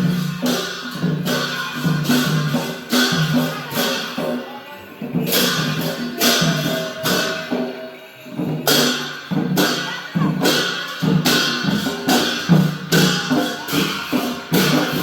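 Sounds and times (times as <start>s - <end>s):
drum pattern: 0.0s - 15.0s
ringing cymbal clashes: 0.0s - 15.0s.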